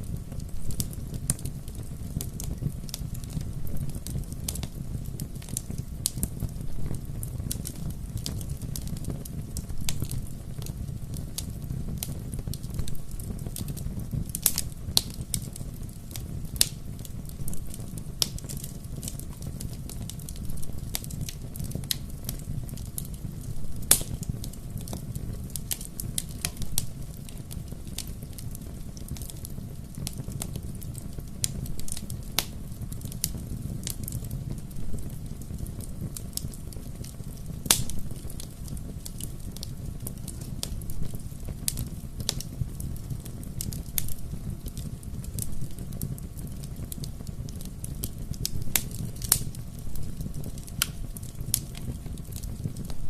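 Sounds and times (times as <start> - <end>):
bonfire crackling and popping: 0.0 - 53.0
low rumble of flames: 0.0 - 53.0.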